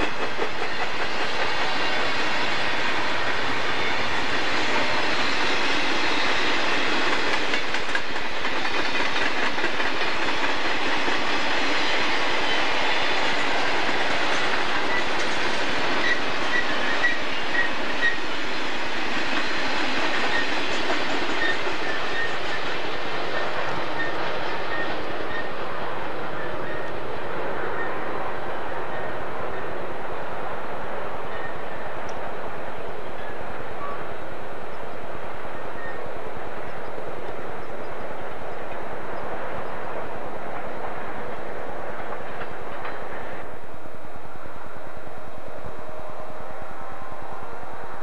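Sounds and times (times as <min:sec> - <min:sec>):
train wheels clattering on rails: 0:00.0 - 0:29.8, 0:34.7 - 0:43.7.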